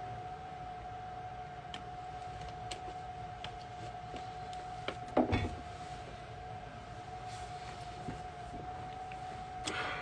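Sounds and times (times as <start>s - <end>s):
steady high hum: 0.0s - 10.0s.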